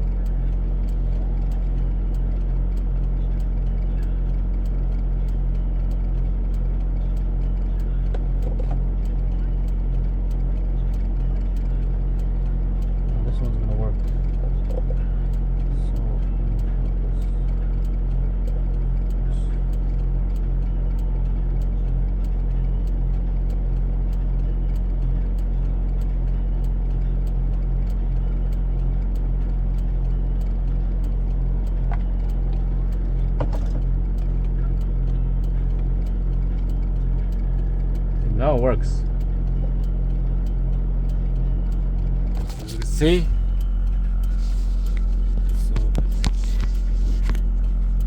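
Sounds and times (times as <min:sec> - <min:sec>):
vehicle engine idling: 0:00.0 - 0:48.0
faint regular ticks: 0:00.1 - 0:48.0.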